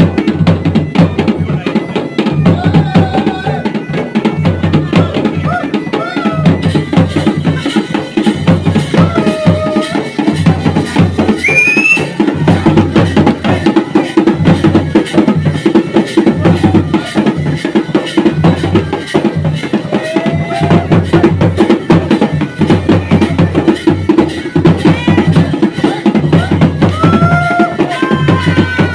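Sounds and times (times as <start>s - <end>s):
drums beating a dense rhythm: 0.0s - 28.9s.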